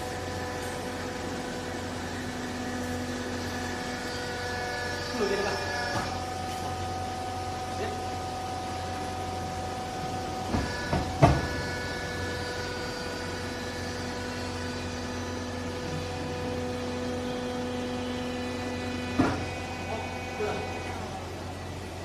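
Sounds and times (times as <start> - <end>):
baler motor humming and whining: 0.0 - 22.0.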